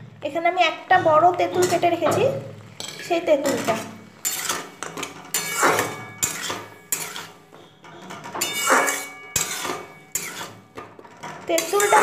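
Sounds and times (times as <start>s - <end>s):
metal spatula scraping metal pan: 1.0s - 12.0s.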